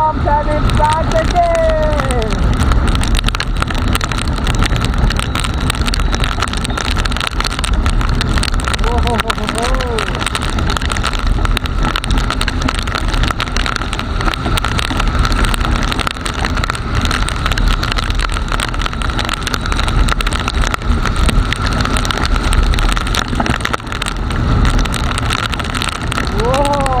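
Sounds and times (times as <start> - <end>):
motorcycle engine running: 0.0 - 27.0
rain: 0.0 - 27.0
road noise: 0.0 - 27.0
wind: 0.0 - 27.0.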